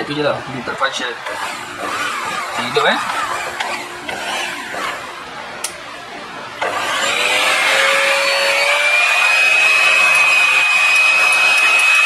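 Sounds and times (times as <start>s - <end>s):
pump motor whine: 0.0s - 12.0s.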